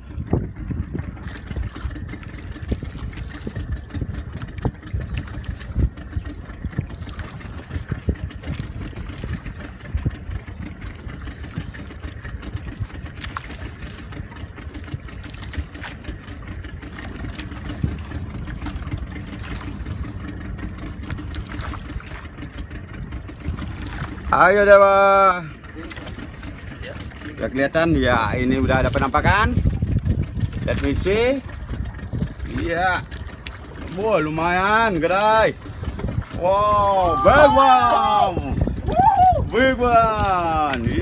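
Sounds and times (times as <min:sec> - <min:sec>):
boat engine idling: 0:00.0 - 0:41.0.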